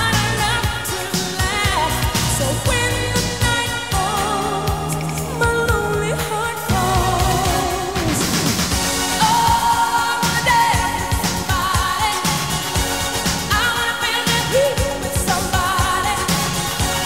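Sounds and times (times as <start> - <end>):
steady drum beat: 0.0 - 17.0
upbeat pop song with singing: 0.0 - 17.0.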